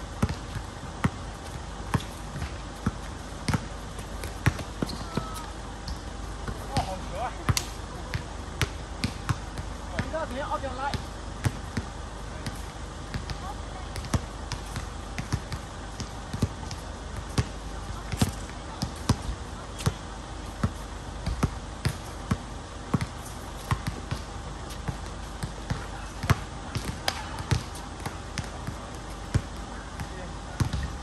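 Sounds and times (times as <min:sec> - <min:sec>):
basketball bouncing on hard court: 0:00.2 - 0:20.0, 0:20.6 - 0:24.2, 0:24.9 - 0:31.0.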